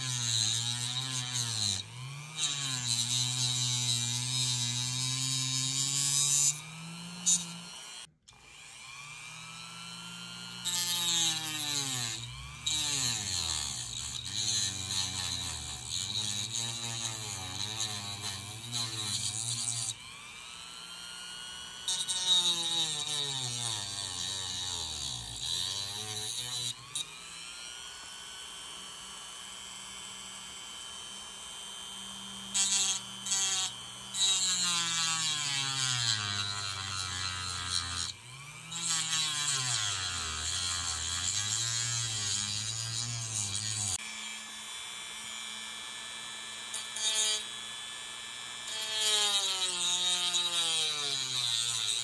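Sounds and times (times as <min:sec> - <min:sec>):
rotary tool grinding: 0:00.0 - 0:28.0, 0:30.9 - 0:44.9, 0:46.6 - 0:47.6, 0:48.6 - 0:52.0.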